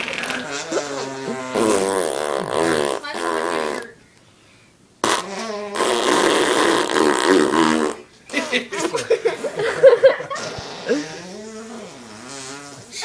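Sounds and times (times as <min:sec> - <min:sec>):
fake fart noises on skin: 0:00.0 - 0:04.0, 0:05.0 - 0:09.1, 0:10.3 - 0:13.0.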